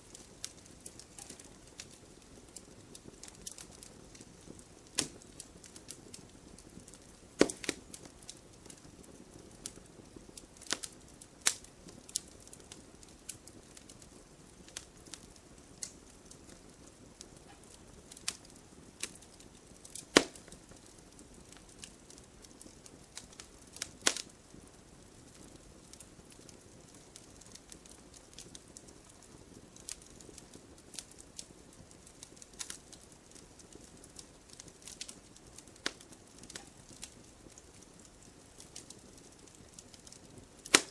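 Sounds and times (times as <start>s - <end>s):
hiss of burning: 0.0s - 40.9s
wood fire pops and snaps: 0.0s - 40.9s.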